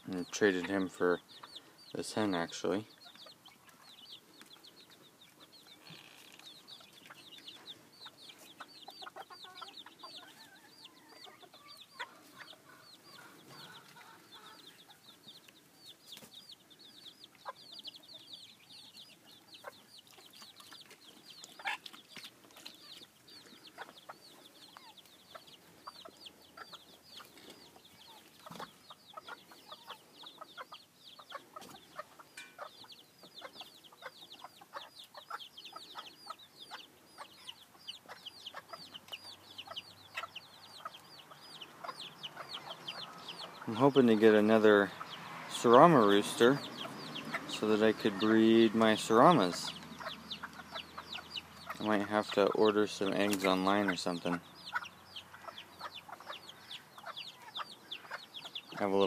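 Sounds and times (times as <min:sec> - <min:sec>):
chickens clucking: 0:00.0 - 0:59.0
chicks peeping: 0:00.0 - 0:59.0.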